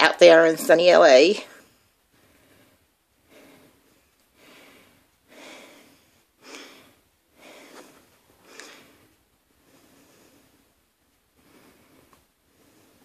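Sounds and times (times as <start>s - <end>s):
person breathing softly: 1.5s - 13.0s.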